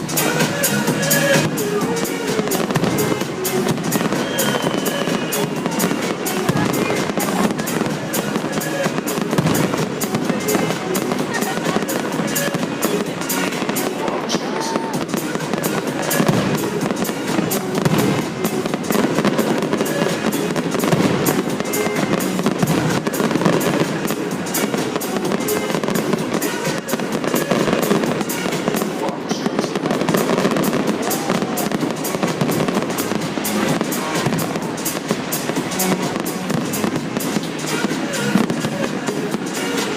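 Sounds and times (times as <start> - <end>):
crowd voices: 0.0 - 39.9
fireworks crackling bursts: 0.0 - 39.9
music playing: 0.0 - 39.9.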